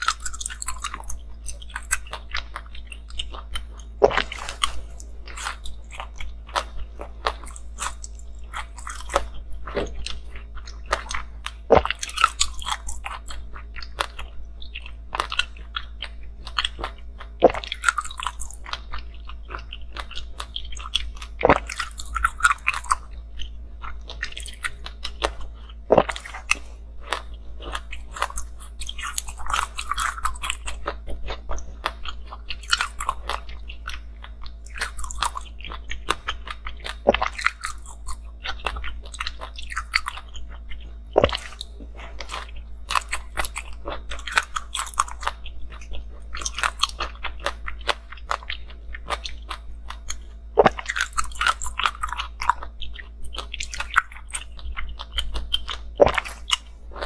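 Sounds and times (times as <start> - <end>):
ice crunching while chewed: 0.0 - 57.0.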